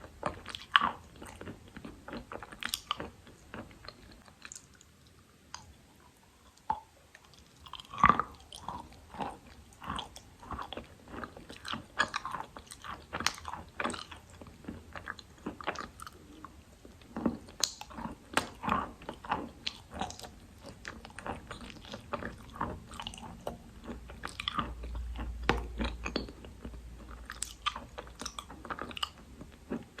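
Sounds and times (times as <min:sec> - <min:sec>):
crunching and chewing chalk: 0:00.0 - 0:30.0.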